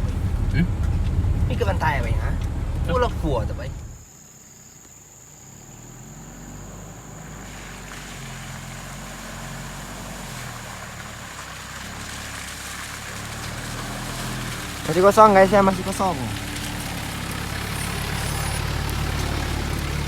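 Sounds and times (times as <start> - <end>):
truck engine running: 0.0 - 4.0, 5.6 - 20.0.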